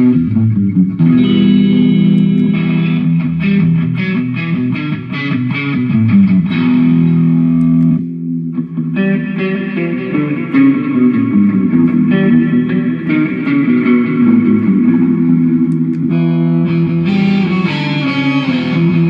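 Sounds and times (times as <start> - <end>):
electric guitar picked notes: 0.0 - 19.0.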